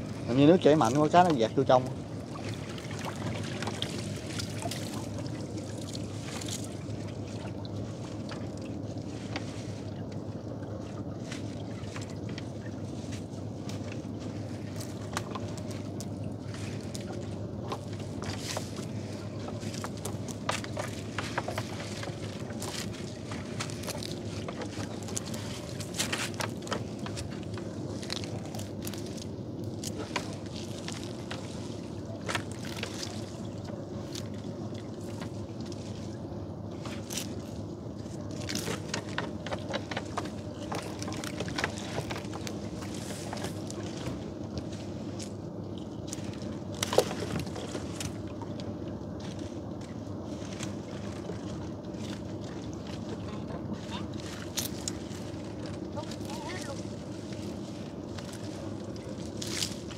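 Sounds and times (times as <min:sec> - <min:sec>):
boat motor humming: 0:00.0 - 0:59.9
water moving around hull: 0:00.0 - 0:59.9.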